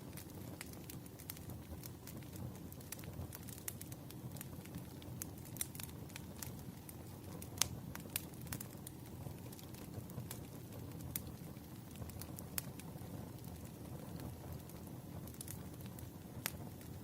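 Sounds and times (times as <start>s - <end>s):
campfire rumbling and crackling: 0.0s - 17.0s.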